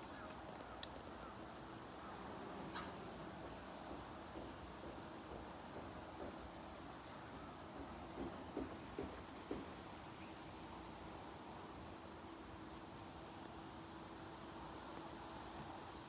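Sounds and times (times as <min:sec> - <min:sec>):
faint outdoor background noise: 0:00.0 - 0:16.0.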